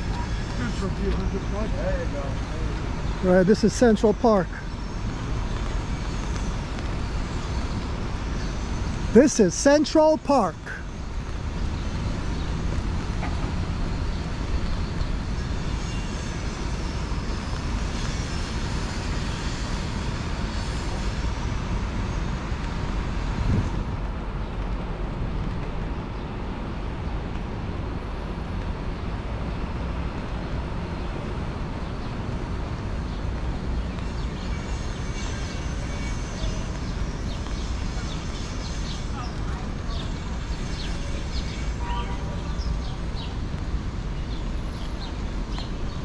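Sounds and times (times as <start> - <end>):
city traffic rumble: 0.0 - 46.0.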